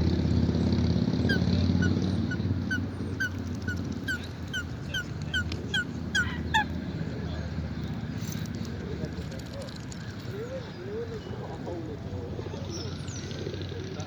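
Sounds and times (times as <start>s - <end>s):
low engine-like rumble: 0.0s - 14.0s.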